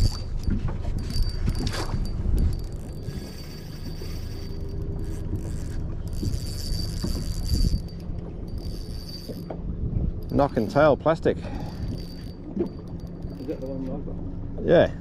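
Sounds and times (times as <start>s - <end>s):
fishing reel whirring: 0.0s - 13.9s
steady low rumble: 0.0s - 15.0s.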